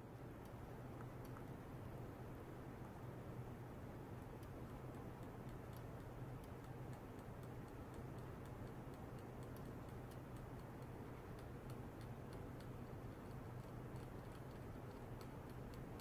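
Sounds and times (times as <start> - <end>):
low electrical hum: 0.0 - 16.0
faint high ticks: 0.4 - 1.6, 4.3 - 16.0.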